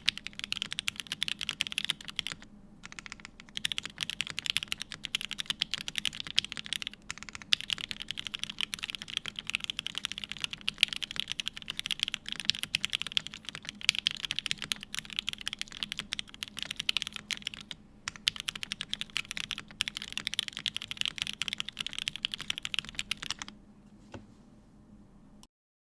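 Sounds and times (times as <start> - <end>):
typing on mechanical keyboard: 0.0 - 23.5.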